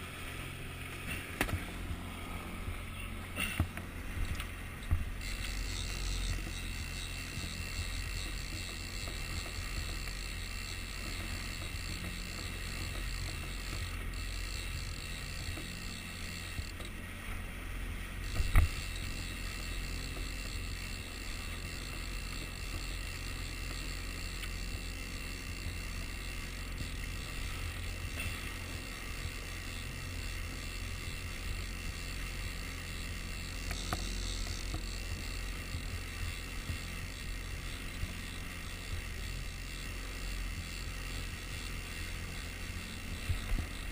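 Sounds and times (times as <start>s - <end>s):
boat motor and water rumble: 0.0s - 43.9s.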